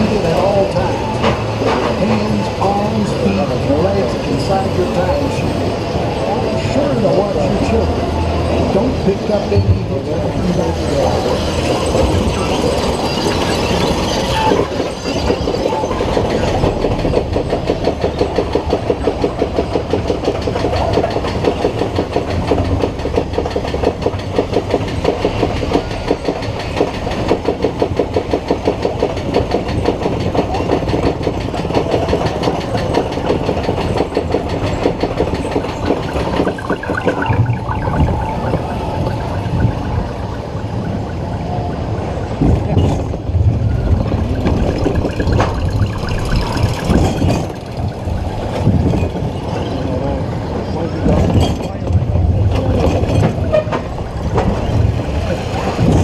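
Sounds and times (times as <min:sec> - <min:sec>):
roller coaster car clacking: 0:00.0 - 0:56.0.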